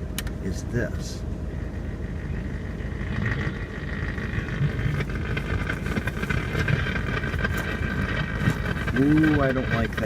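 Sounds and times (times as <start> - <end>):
heater blower fan running: 0.0 - 10.0.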